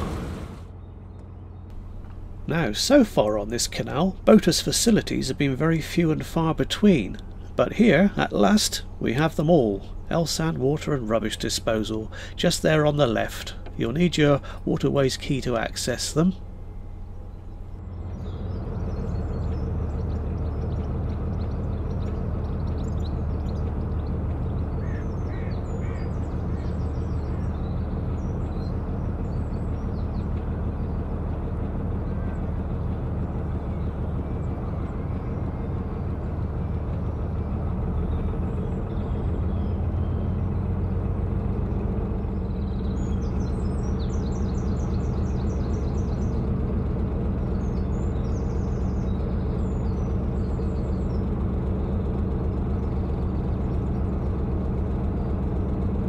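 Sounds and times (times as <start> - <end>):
birds chirping: 0.0 - 56.0
boat diesel engine running: 0.0 - 56.0.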